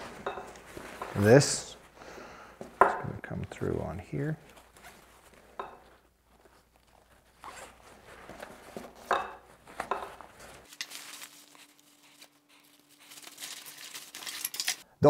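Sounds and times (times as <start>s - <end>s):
fabric rustling: 0.0s - 2.0s, 4.4s - 14.8s.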